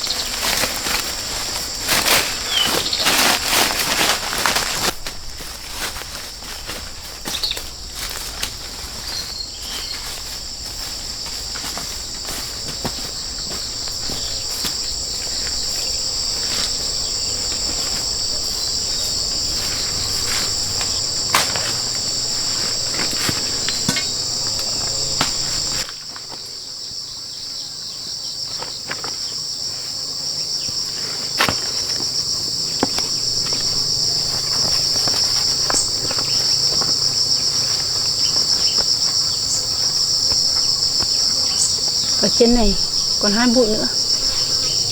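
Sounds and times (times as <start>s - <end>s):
insects buzzing: 0.0s - 44.9s.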